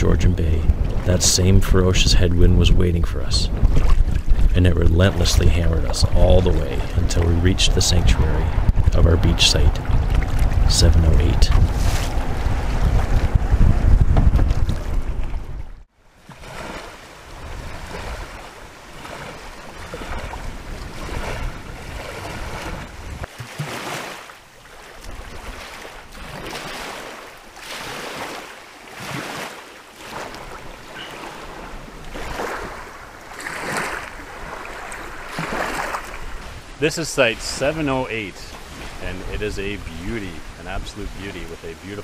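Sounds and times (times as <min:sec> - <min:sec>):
small waves washing onto sand: 0:02.0 - 0:13.6, 0:16.0 - 0:42.0.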